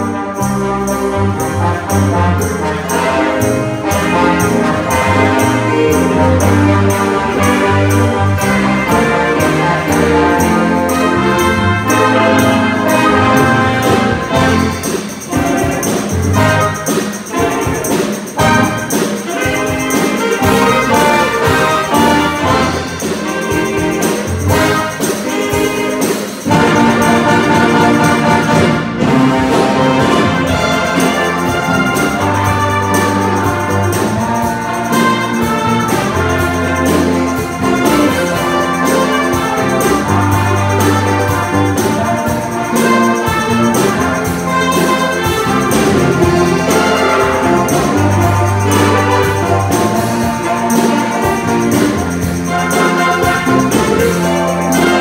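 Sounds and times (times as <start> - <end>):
wind band playing: 0.0 - 55.0.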